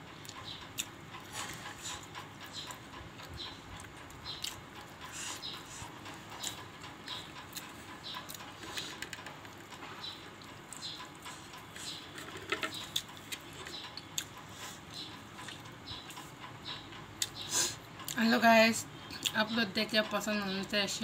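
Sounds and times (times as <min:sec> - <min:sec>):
person chewing and lip smacking: 0:00.2 - 0:18.2.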